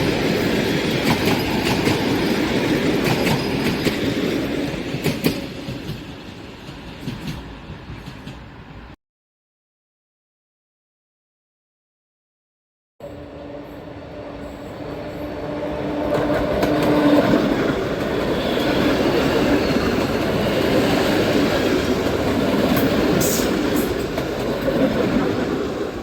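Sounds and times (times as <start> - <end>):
train wheels rumbling on rail: 0.0 - 9.0, 13.1 - 26.0.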